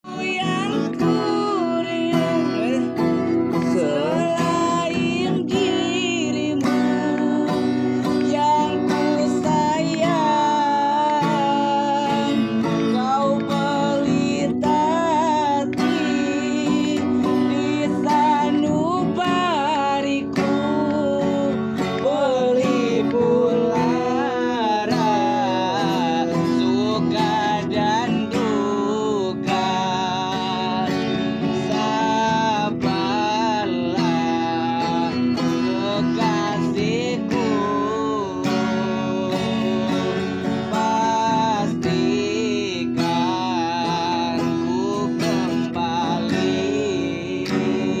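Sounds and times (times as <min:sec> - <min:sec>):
person singing: 0:00.0 - 0:48.0
strummed acoustic guitar: 0:00.0 - 0:48.0.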